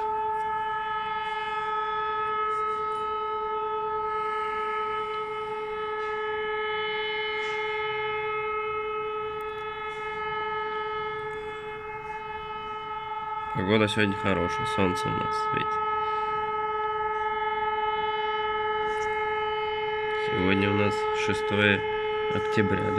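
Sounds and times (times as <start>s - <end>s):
air-raid siren steady tone: 0.0s - 22.9s.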